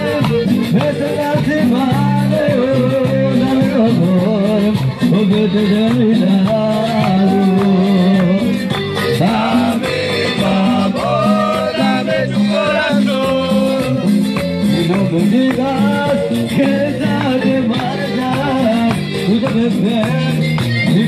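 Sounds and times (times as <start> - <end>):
man singing into microphone: 0.0 - 8.6, 9.2 - 14.1, 14.7 - 21.0
amplified latin music with bass: 0.0 - 21.0.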